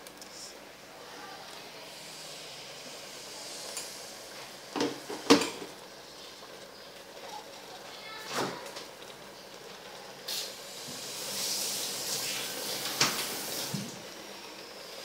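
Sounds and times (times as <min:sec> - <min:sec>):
faint sizzling in pot: 0:00.0 - 0:15.0.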